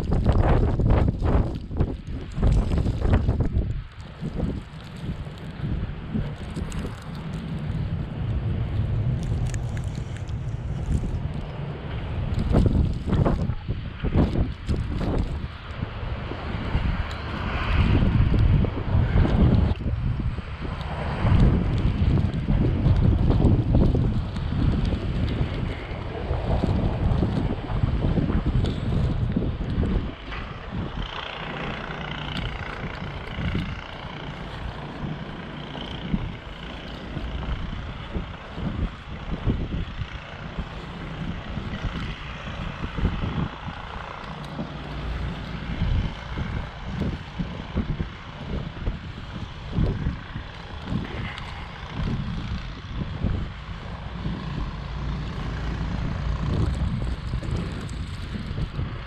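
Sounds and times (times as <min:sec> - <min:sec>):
engine running: 0:00.0 - 0:59.0
wind buffeting microphone: 0:00.0 - 0:59.0.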